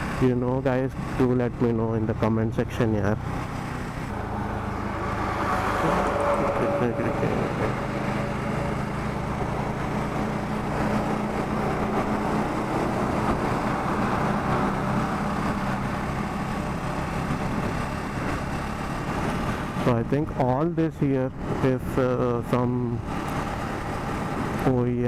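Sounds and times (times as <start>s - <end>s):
motorcycle engine cruising: 0.0s - 25.0s
wind and road noise: 0.0s - 25.0s.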